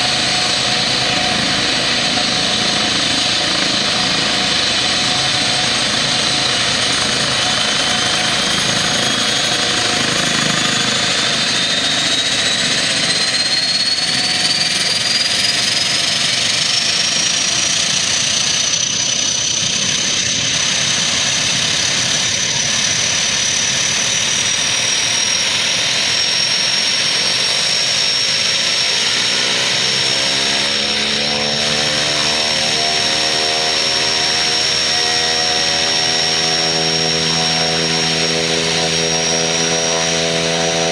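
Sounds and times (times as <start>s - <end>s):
aircraft turbine engines whining: 0.0s - 40.9s.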